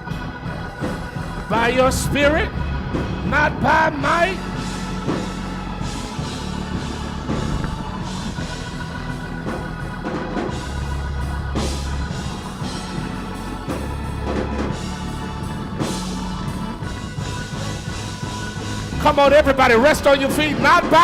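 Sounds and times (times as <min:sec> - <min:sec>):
drum kit beat: 0:00.0 - 0:21.0
held bass notes: 0:00.0 - 0:21.0.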